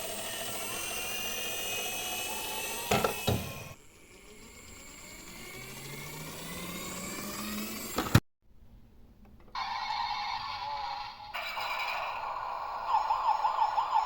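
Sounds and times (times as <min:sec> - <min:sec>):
toy whine rising in pitch: 0:00.0 - 0:08.1, 0:09.6 - 0:14.0.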